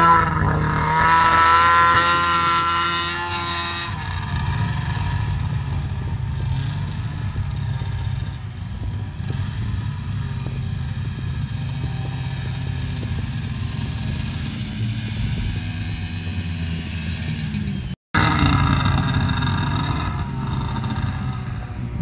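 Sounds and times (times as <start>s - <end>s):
higher snowmobile engine note: 0.0s - 22.0s
low snowmobile engine drone: 0.0s - 22.0s.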